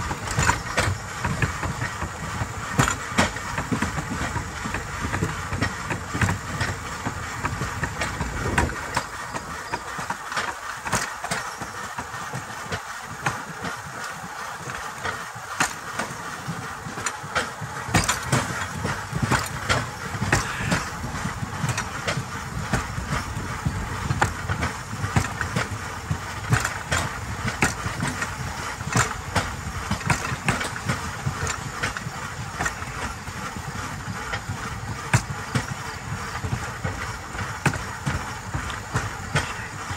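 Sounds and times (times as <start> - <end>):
wheels rumbling on rails: 0.0 - 39.9
irregular clicks and knocks: 0.1 - 33.1.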